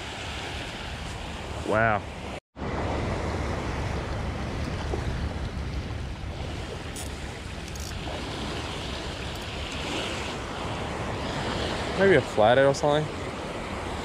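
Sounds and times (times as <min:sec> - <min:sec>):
small waves lapping on shore: 0:00.0 - 0:14.0
wind buffeting microphone: 0:02.6 - 0:14.0.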